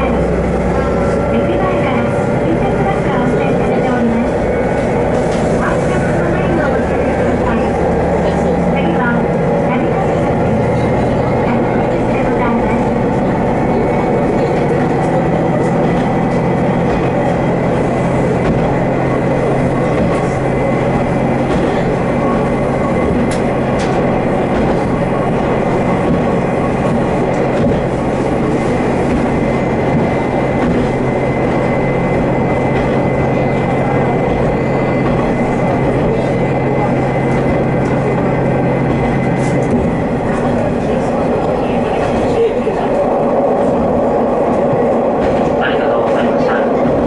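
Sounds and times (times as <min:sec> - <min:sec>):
railcar engine drone: 0:00.0 - 0:47.0
wheels rumbling on rail: 0:00.0 - 0:47.0.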